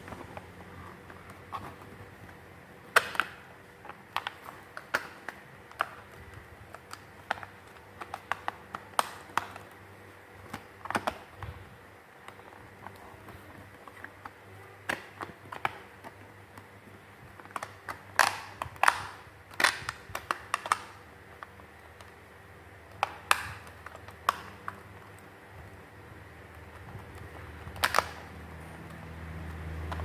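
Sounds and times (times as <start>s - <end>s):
plastic parts clicking and knocking: 0.0s - 22.2s, 22.8s - 25.7s, 26.4s - 30.0s.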